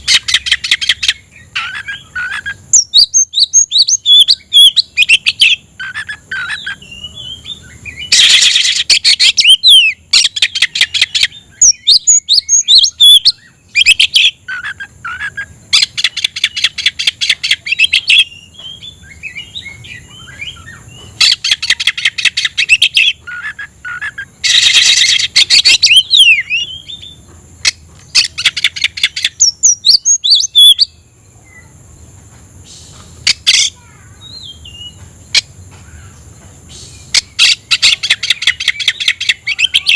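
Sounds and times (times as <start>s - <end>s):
magpie-robin singing: 0.0s - 31.7s, 32.7s - 39.9s.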